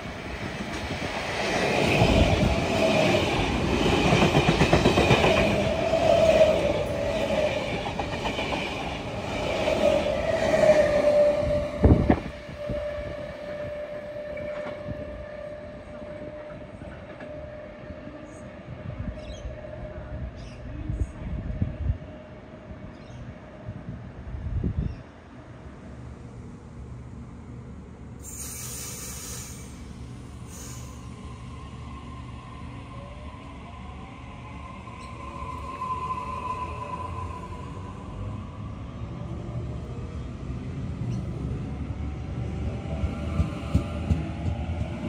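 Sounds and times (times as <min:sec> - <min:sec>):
train passing: 0:00.0 - 0:24.6, 0:25.2 - 0:45.0.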